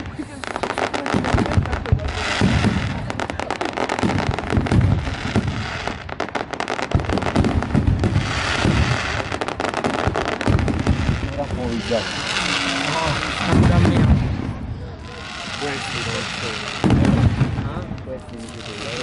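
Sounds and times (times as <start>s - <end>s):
deep fireworks booms: 0.0s - 19.0s
fireworks cracking and popping: 0.0s - 19.0s.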